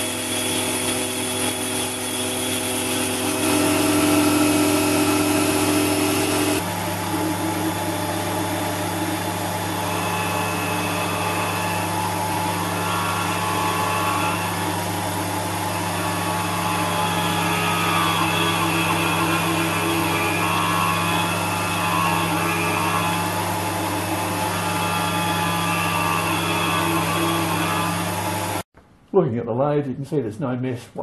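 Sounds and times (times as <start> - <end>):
grinding on a bolt: 0.0 - 28.6
tool post grinder humming: 0.0 - 28.6.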